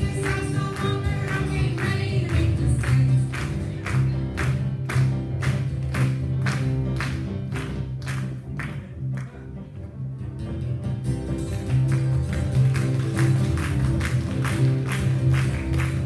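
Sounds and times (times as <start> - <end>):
bass line: 0.0 - 16.0.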